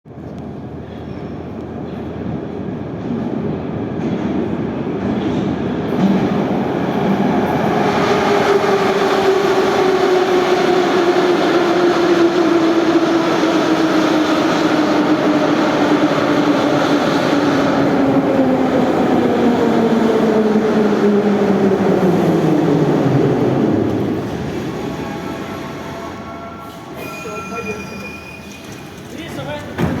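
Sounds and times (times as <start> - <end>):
metro train rumbling: 0.1 - 30.0.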